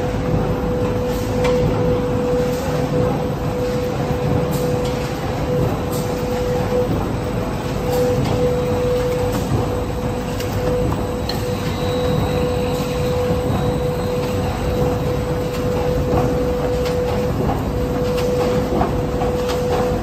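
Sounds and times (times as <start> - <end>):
boards clicking on conveyor: 0.0 - 20.0
machine rumble and hum: 0.0 - 20.0.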